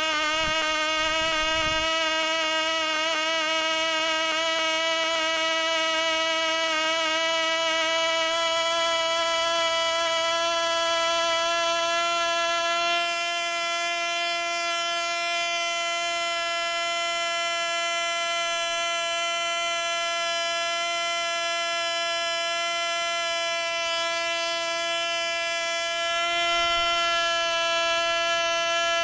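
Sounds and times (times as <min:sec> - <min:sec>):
model airplane engine buzzing: 0:00.0 - 0:29.0.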